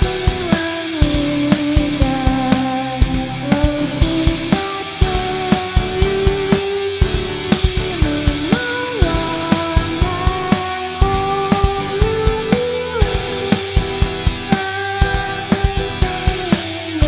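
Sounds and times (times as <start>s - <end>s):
drum kit beat: 0.0s - 17.0s
sliding lead melody: 0.0s - 17.0s.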